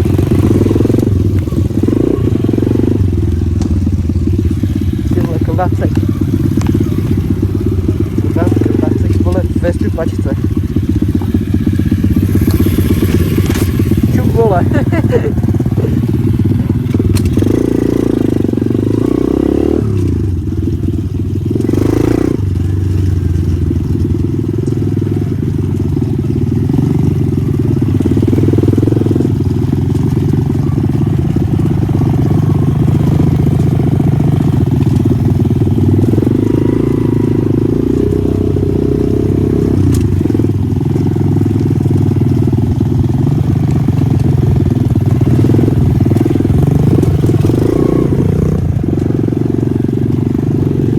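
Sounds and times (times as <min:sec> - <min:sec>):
pit bike engine running: 0:00.0 - 0:50.9.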